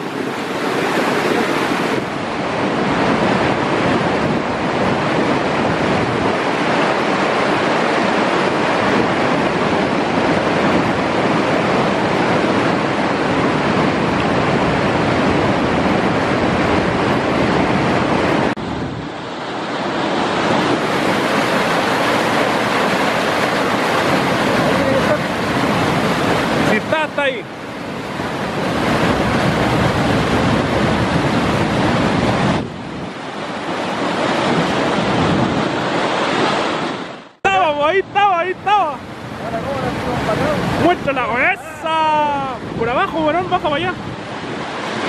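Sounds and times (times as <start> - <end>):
river rapids rushing over boulders: 0.0 - 15.0, 17.0 - 30.4, 33.1 - 37.2, 38.3 - 45.0.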